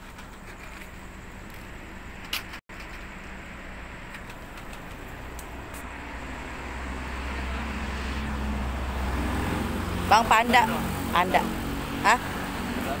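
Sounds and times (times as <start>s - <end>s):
street traffic: 0.0s - 13.0s
vehicle engine hum: 0.0s - 13.0s.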